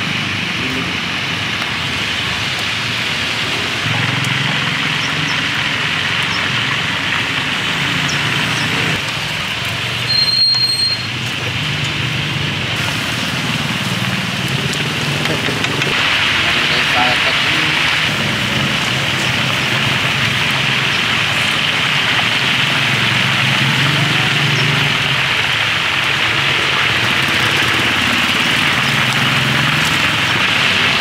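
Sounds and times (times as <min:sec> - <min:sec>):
street traffic: 0:00.0 - 0:31.0
chicken deep-frying in oil: 0:00.2 - 0:31.0.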